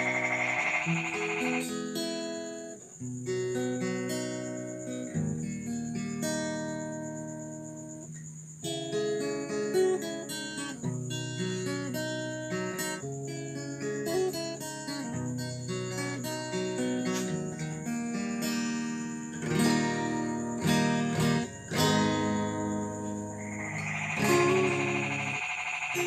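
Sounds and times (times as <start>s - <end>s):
fingerstyle acoustic guitar: 0.0s - 26.0s.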